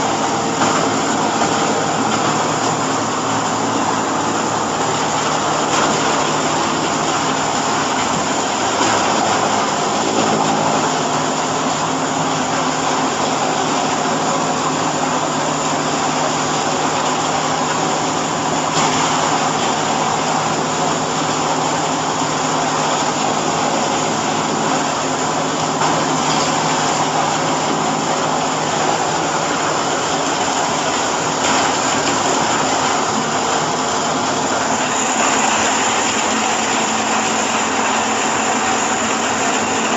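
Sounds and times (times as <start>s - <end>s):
baler machine humming: 0.0s - 39.9s.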